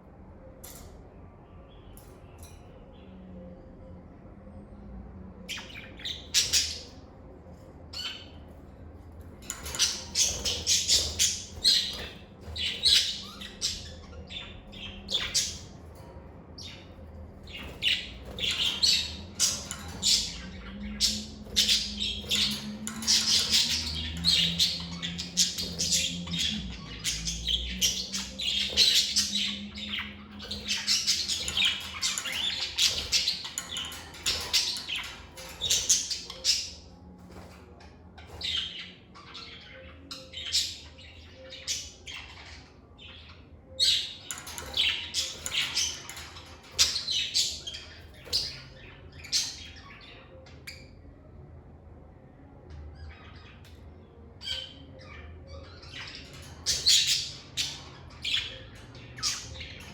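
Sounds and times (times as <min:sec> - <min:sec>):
lovebirds chirping and squawking: 0:05.3 - 0:59.9.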